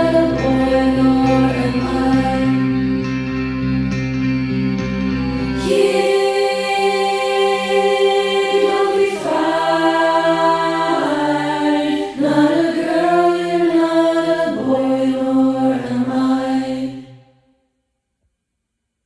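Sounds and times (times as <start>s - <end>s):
slow choir-like vocal chords: 0.0s - 17.5s.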